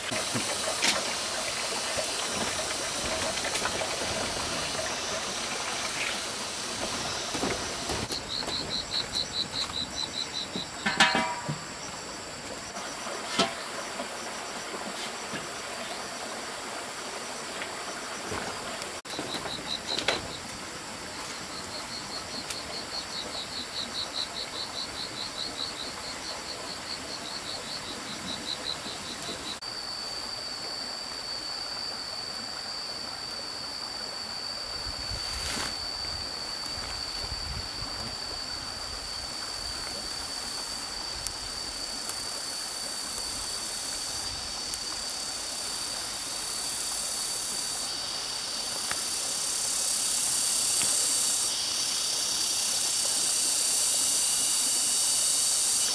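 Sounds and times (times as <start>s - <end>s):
cicada drone: 0.0s - 55.9s
steady hiss: 0.0s - 55.9s
pulsing high-pitched insect chirping: 0.1s - 55.9s.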